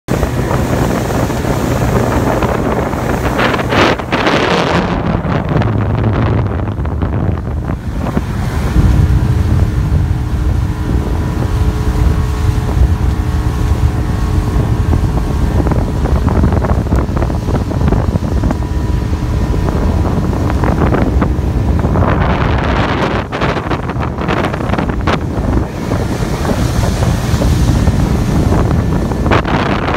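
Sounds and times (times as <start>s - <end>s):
boat engine hum: 0.1s - 29.9s
water washing along hull: 0.1s - 29.9s
wind buffeting microphone: 0.1s - 29.9s.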